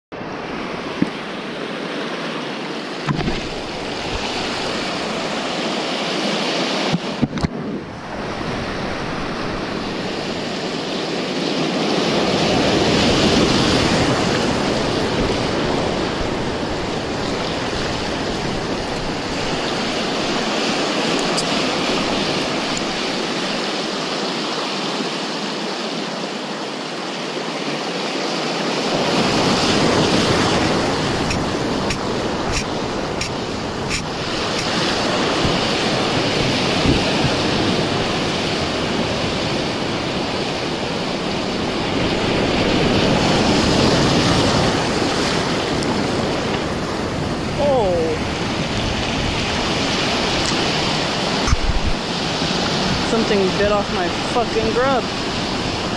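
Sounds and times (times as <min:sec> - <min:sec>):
surf washing over rocks: 0:00.1 - 0:55.9.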